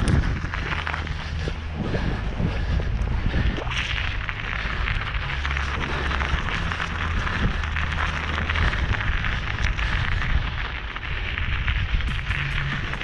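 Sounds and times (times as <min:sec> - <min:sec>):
wind buffeting microphone: 0:00.0 - 0:07.8, 0:08.4 - 0:13.0.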